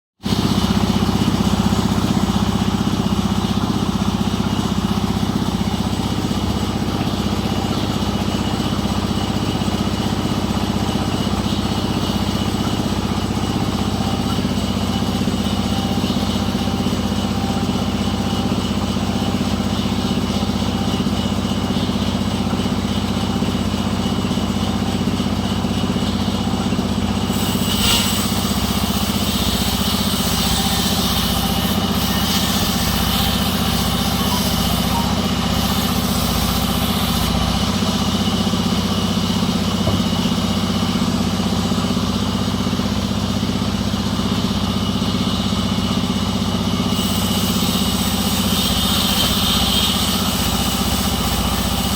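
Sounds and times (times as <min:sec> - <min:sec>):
engine running steadily: 0:00.2 - 0:51.9.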